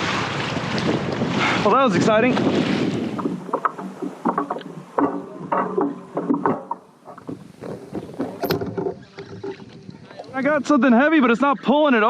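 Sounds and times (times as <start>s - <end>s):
water slapping against kayak hull: 0.0s - 11.0s.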